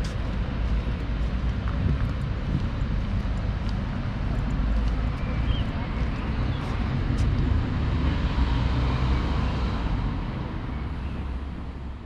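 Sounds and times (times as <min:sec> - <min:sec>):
street low rumble: 0:00.0 - 0:12.0.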